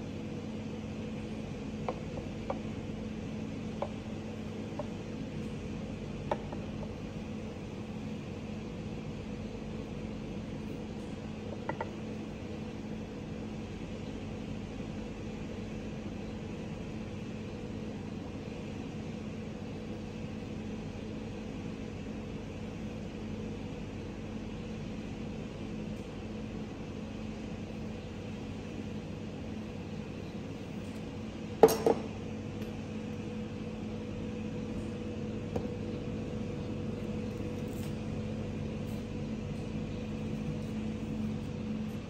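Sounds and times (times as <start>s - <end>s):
machine hum with hiss: 0.0s - 42.0s.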